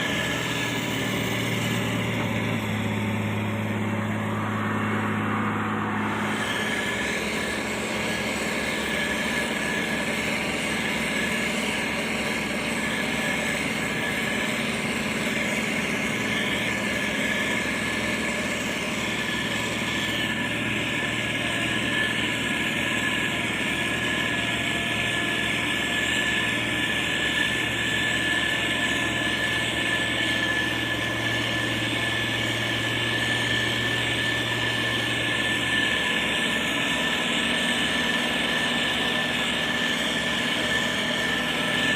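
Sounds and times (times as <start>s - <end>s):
heavy machine diesel engine running: 0.0s - 41.9s
steady high tone: 0.0s - 41.9s.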